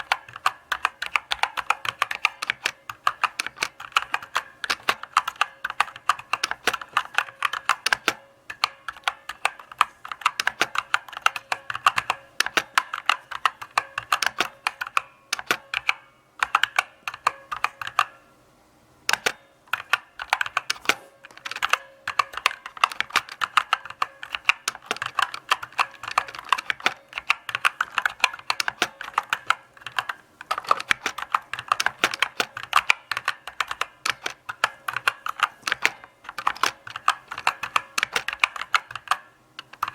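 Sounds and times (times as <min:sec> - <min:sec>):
mechanical keyboard typing: 0:00.0 - 0:18.2, 0:19.1 - 0:39.9.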